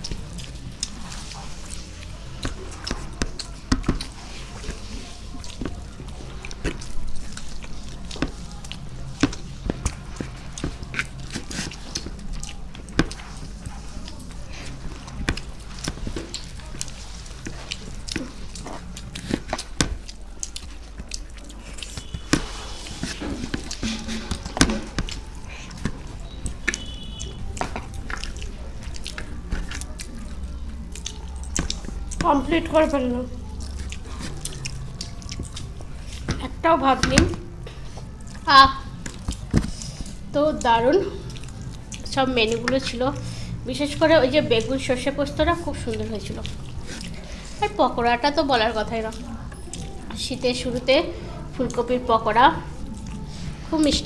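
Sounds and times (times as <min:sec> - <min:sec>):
chewing with wet smacks: 0:00.0 - 0:54.0.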